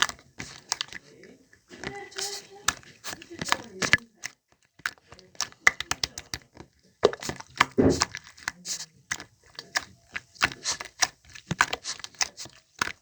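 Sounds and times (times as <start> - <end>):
wet slime squish: 0.0 - 13.0.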